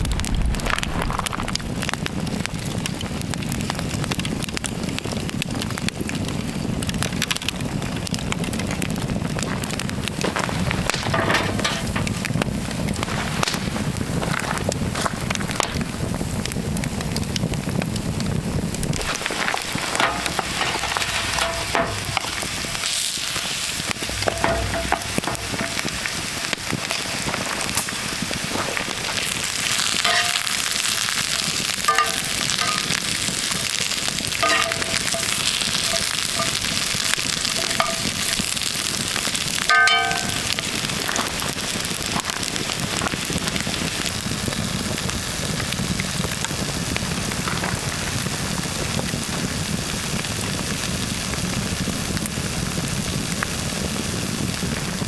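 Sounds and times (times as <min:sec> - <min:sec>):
campfire crackles: 0:00.0 - 0:55.0
food sizzling in a pan: 0:00.2 - 0:55.0.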